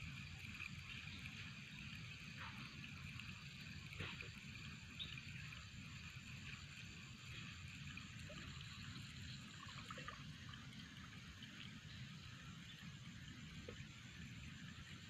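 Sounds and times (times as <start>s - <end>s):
faint flowing river water: 0.0s - 15.0s.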